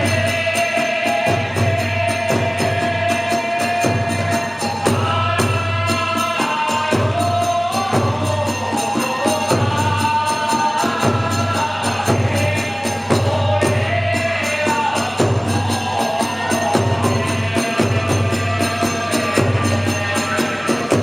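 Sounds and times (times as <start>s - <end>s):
drum beat: 0.0s - 21.0s.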